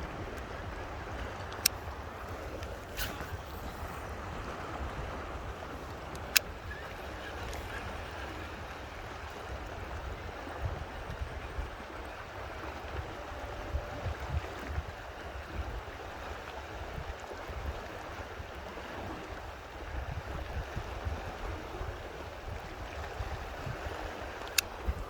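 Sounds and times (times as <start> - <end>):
wind buffeting microphone: 0.0 - 19.1, 19.8 - 25.0
rushing water: 0.0 - 25.0.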